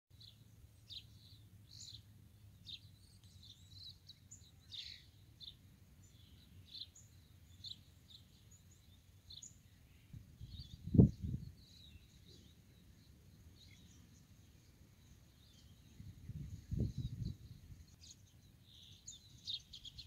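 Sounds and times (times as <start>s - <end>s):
small birds chirping: 0.1s - 20.0s.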